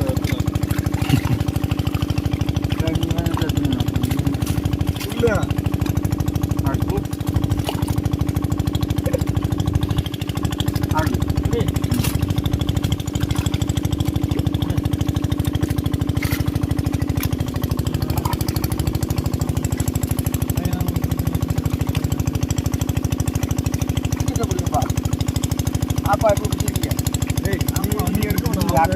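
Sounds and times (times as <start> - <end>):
small engine chugging: 0.0 - 28.9.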